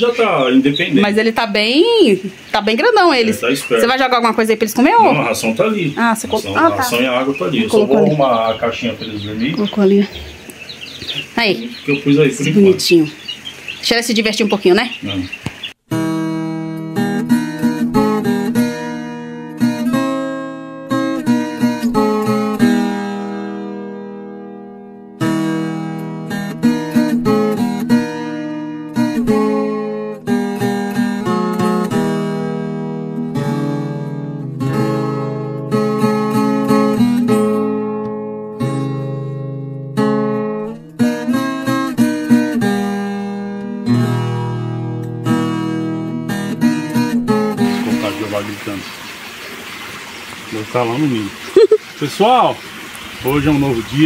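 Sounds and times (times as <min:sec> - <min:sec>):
acoustic guitar plucking: 0:00.0 - 0:15.2, 0:15.8 - 0:48.5.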